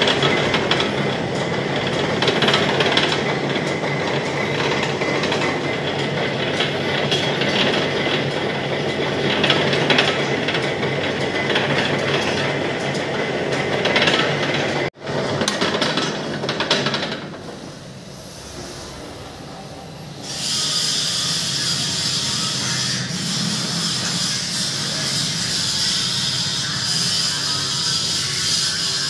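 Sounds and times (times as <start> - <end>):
lathe running: 0.0 - 29.0.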